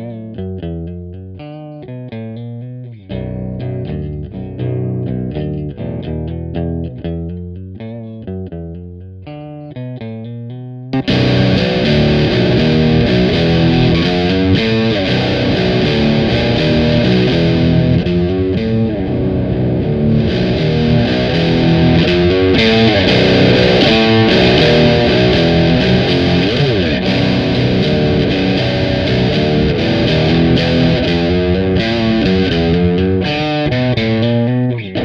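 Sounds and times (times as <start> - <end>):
distorted electric guitar riffing: 0.0 - 35.0.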